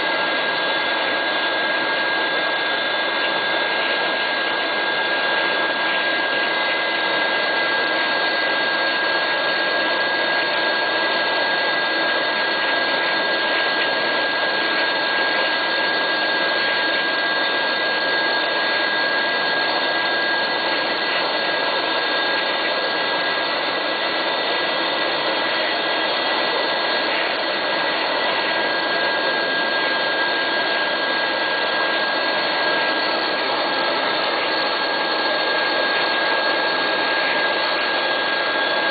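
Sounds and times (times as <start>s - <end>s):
jet engines running with whine: 0.0s - 38.9s.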